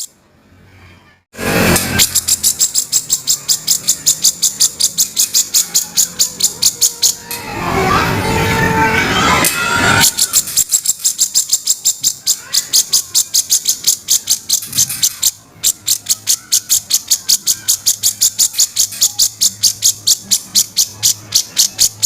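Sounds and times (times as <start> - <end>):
bulbul harsh chattering call: 1.5 - 8.1, 9.6 - 22.0.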